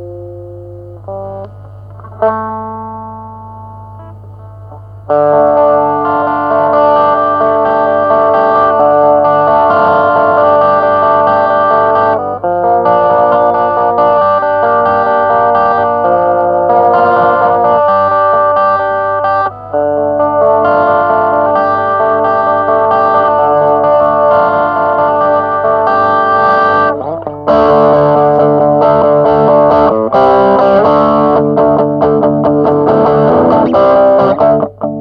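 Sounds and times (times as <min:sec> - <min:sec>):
distorted electric guitar chords: 0:00.0 - 0:35.0.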